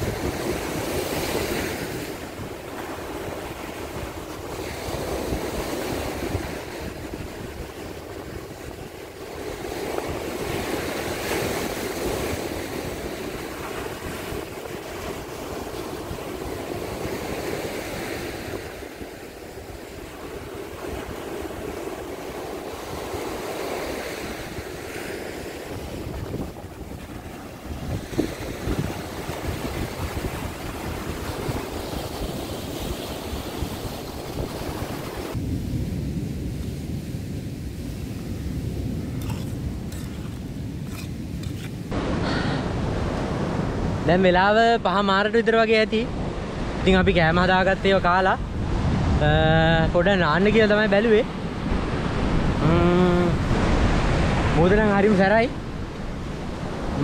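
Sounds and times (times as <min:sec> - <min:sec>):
wind buffeting microphone: 0:00.0 - 0:44.1, 0:46.1 - 0:54.8
sea surf breaking: 0:00.0 - 0:57.0.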